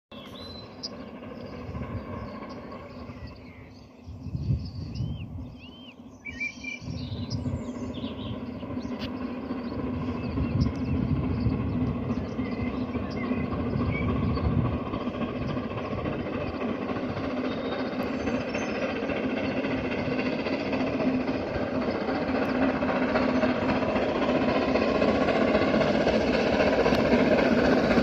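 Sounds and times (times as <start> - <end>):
birds chirping: 0.1 - 26.7
distant steam locomotive rumble: 0.1 - 28.0.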